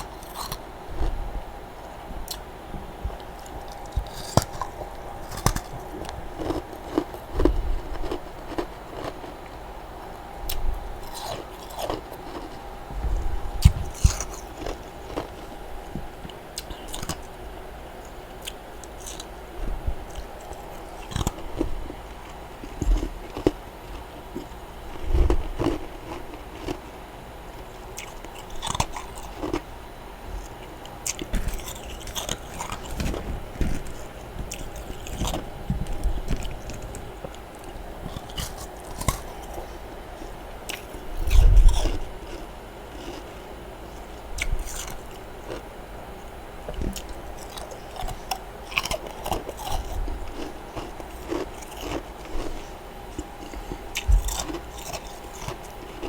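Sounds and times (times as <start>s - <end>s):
crunching and chewing frost: 0.0s - 56.0s.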